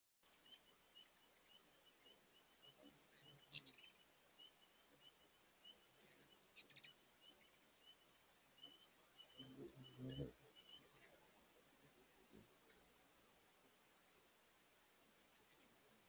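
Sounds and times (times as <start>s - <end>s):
hummingbirds chipping and twittering: 0.2s - 16.0s.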